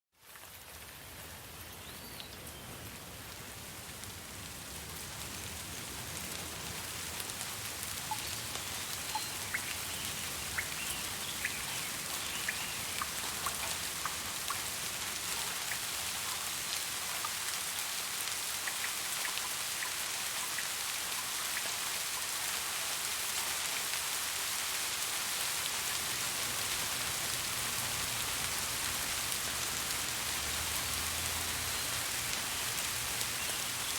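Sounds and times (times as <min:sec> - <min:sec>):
steady rainfall: 0:00.1 - 0:33.9.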